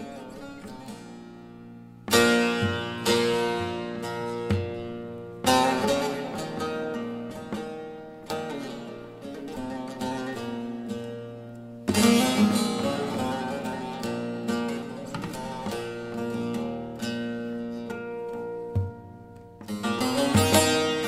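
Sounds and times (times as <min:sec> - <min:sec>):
long-necked lute played solo: 0:00.0 - 0:21.0.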